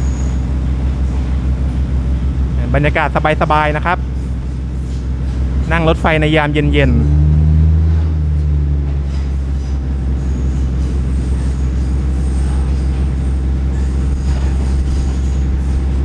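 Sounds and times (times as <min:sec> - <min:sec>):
diesel engine drone: 0:00.0 - 0:16.0
train wheels rumbling on rails: 0:00.0 - 0:16.0.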